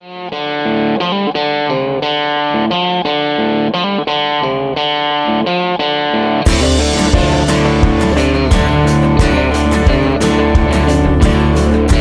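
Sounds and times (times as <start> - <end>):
distorted electric guitar riff: 0.0 - 12.0.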